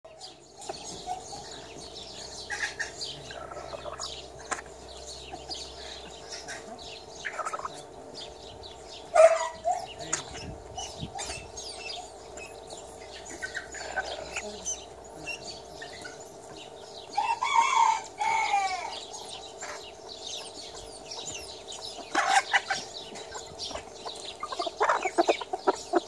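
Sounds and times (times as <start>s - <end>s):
chickens clucking and calling: 0.1s - 26.0s
small birds chirping: 0.1s - 26.0s.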